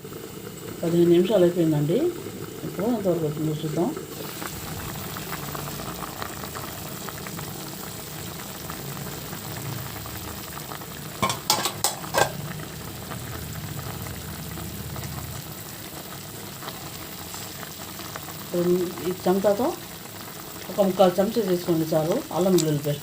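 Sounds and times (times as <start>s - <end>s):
pot of water boiling: 0.0s - 23.0s.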